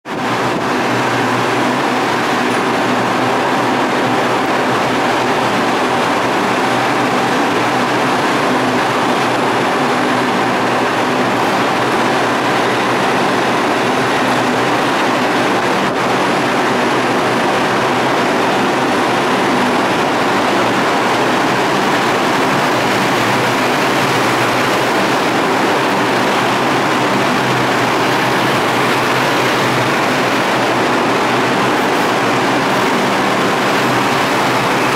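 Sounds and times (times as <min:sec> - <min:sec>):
subway train rumbling on rails: 0:00.0 - 0:34.9.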